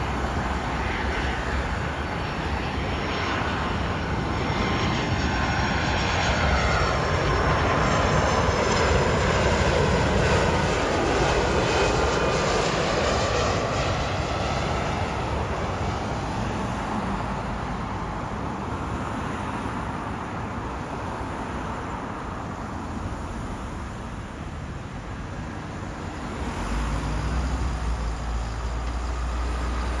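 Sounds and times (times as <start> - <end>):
jet airliner roaring past: 0.0 - 30.0.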